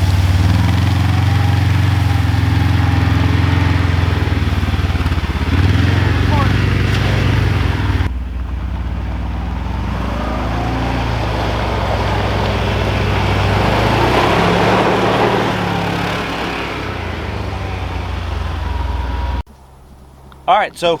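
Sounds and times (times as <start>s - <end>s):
utility vehicle engine running: 0.0s - 20.4s
tyres rumbling over ground: 0.0s - 21.0s.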